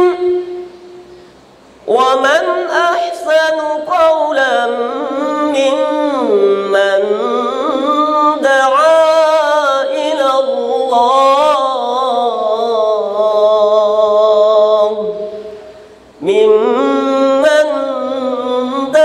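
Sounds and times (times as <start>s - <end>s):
man chanting through a microphone: 0.0s - 1.0s, 1.8s - 19.0s.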